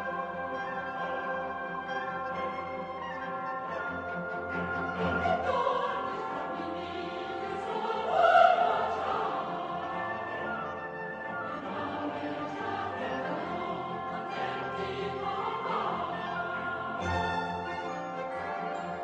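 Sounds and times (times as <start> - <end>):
orchestra with choral singing: 0.0 - 19.0.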